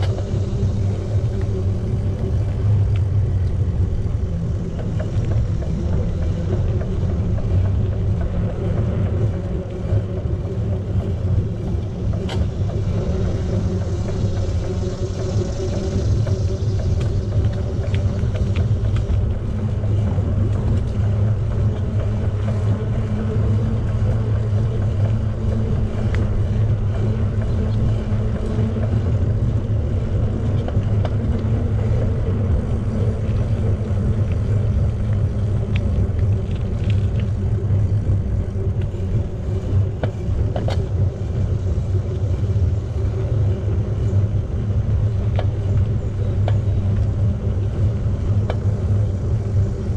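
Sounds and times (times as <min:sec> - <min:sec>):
bicycle tyre noise: 0:00.0 - 0:49.9
faint ticks: 0:00.0 - 0:49.9
wind on microphone: 0:00.0 - 0:49.9.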